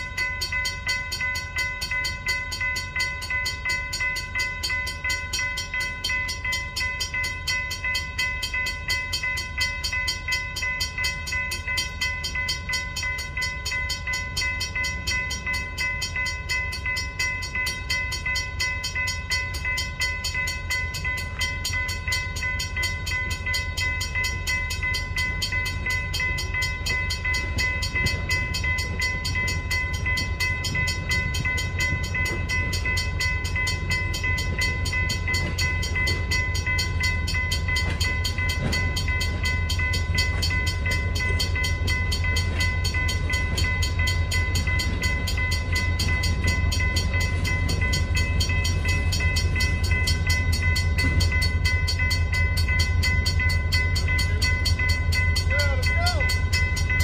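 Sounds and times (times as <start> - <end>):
crossing warning bell ringing: 0.0 - 57.0.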